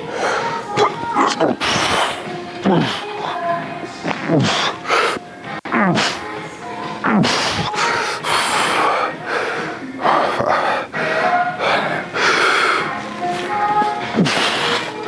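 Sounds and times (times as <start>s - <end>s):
music playing: 0.0s - 15.0s.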